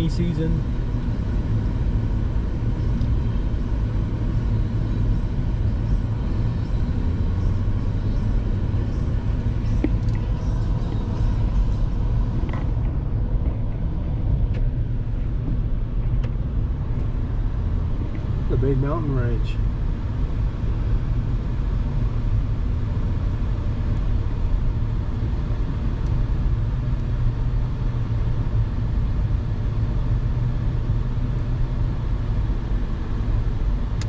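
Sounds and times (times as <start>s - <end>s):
car road noise rumble: 0.0s - 34.0s.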